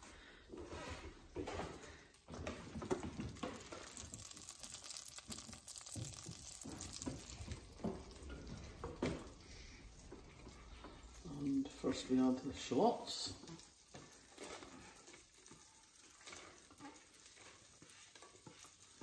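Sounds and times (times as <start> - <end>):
butter sizzling in hot oil: 2.2 - 19.0.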